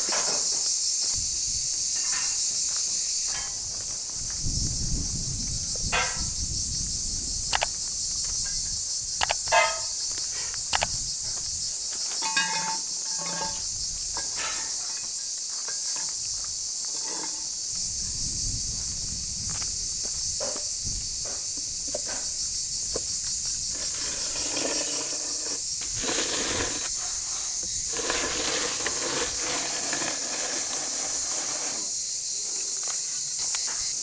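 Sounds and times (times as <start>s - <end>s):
cicadas chorus: 0.0s - 34.0s.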